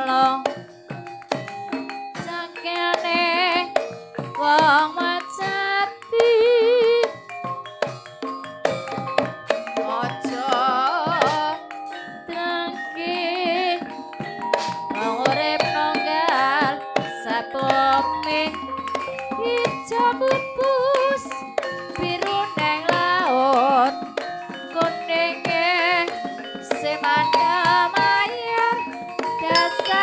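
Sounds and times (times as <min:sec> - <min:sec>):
hand drum strokes: 0:00.0 - 0:12.4, 0:13.4 - 0:30.0
metallophone notes ringing: 0:00.0 - 0:30.0
vibrato melody line: 0:00.0 - 0:30.0.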